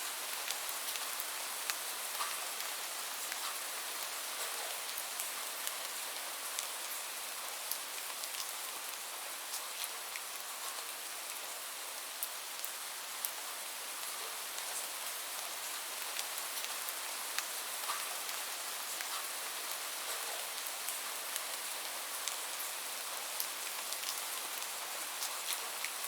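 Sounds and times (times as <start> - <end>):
light rain hissing: 0.0 - 26.0
raindrops ticking on a surface: 0.1 - 26.0.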